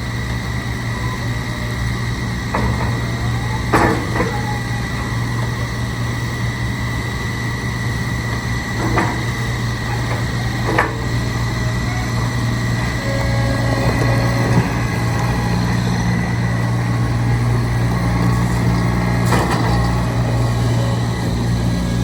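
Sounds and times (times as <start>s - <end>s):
loader engine whining: 0.0s - 22.0s.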